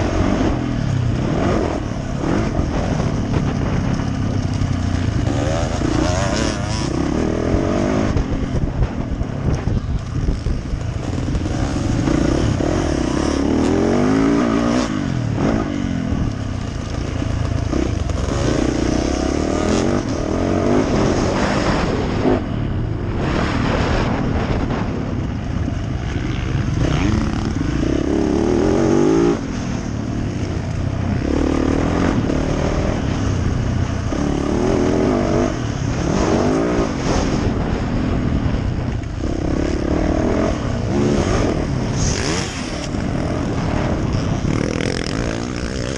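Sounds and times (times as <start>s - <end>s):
dirt bike engine revving: 0.0s - 45.9s
steady rushing noise: 0.0s - 45.9s.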